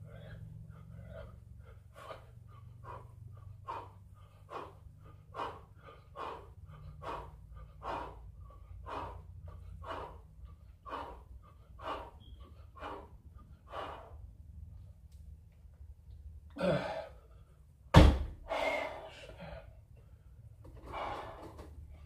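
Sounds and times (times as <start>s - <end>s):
man breathing hard: 0.0s - 14.9s, 16.5s - 22.0s.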